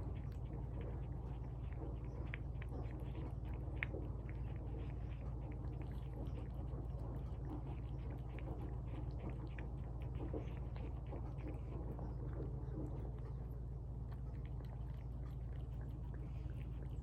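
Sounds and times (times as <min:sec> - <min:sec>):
cat chewing wet food: 0:00.0 - 0:17.0
steady low hum: 0:00.0 - 0:17.0.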